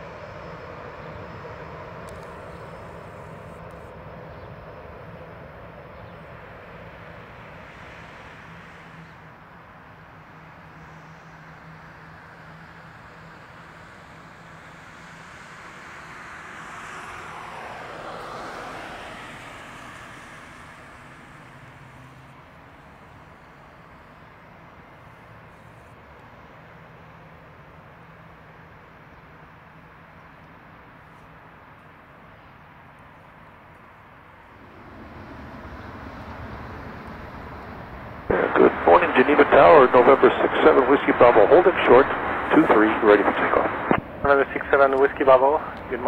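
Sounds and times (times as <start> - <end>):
jet taxiing: 0.0 - 29.4, 33.0 - 46.0.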